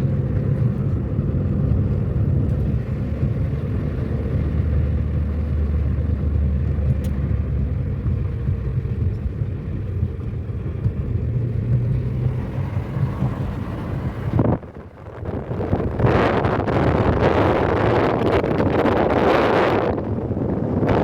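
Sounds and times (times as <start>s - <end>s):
car engine hum: 0.0s - 21.0s
road rumble: 0.0s - 21.0s.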